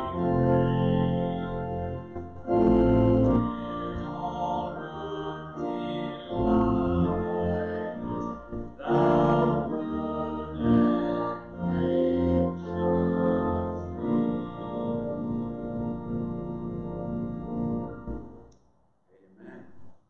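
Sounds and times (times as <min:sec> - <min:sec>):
pipe organ chords: 0:00.0 - 0:18.5.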